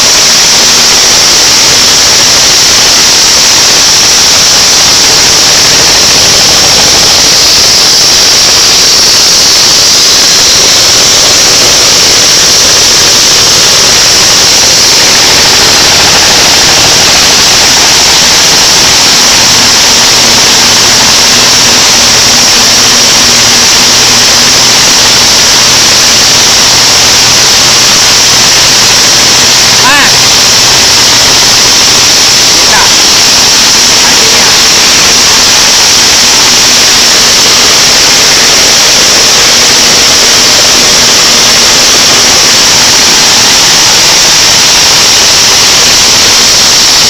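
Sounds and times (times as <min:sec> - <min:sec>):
blower rushing and hissing: 0:00.0 - 0:47.0.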